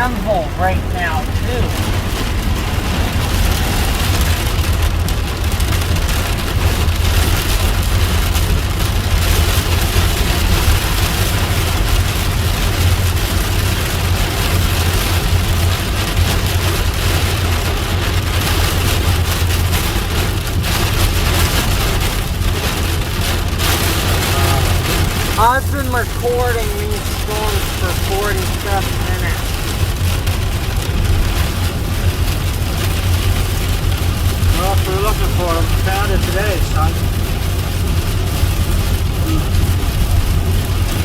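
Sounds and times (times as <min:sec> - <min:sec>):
car low rumble: 0:00.0 - 0:41.0
heavy rain on vehicle: 0:00.0 - 0:41.0.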